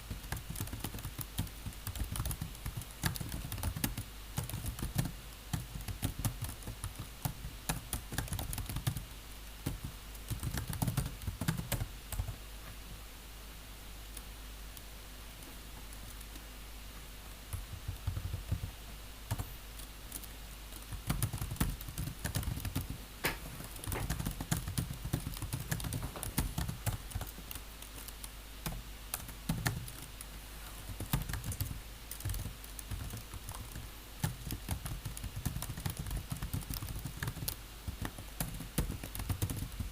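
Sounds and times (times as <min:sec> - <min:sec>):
typing on computer keyboard: 0:00.1 - 0:12.4, 0:17.5 - 0:18.7, 0:19.3 - 0:23.0, 0:23.6 - 0:30.3, 0:30.9 - 0:39.9.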